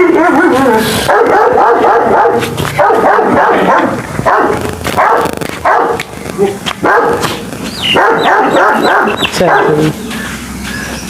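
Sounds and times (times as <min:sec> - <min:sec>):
dogs barking rapidly: 0:00.9 - 0:11.0.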